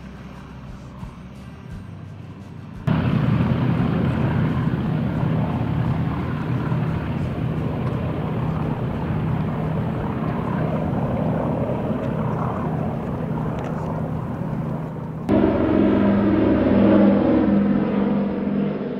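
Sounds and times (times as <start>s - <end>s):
aircraft piston engines droning: 0.0s - 18.9s.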